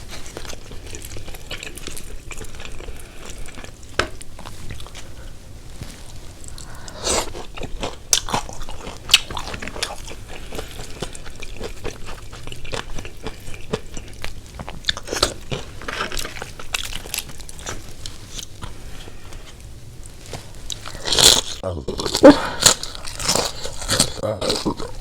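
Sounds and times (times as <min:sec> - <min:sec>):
crunching fried chicken: 0:00.0 - 0:05.3, 0:06.0 - 0:19.3, 0:20.0 - 0:25.0
chewing: 0:00.0 - 0:25.0.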